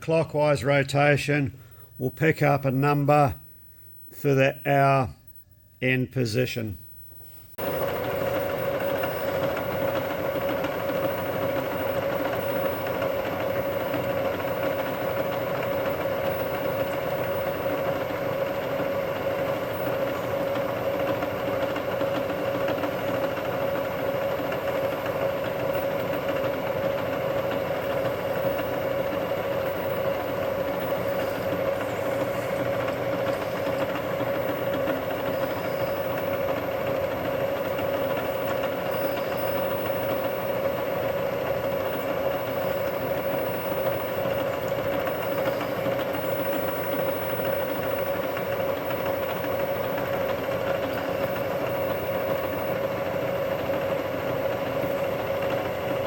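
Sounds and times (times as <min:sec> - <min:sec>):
milling machine running: 0:07.6 - 0:56.0.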